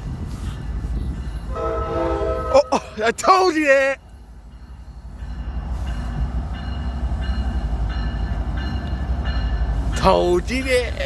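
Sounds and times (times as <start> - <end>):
diesel train low rumble: 0.0 - 11.0.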